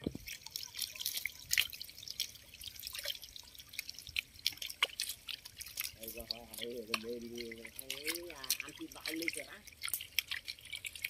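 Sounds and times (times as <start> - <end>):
fish splashing in shallow water: 0.0 - 11.0.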